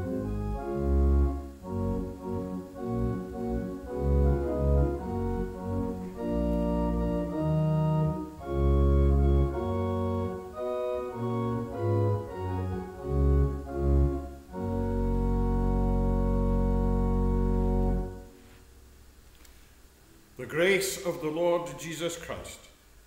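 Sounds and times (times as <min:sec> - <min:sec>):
church organ playing hymn chords: 0:00.0 - 0:18.7.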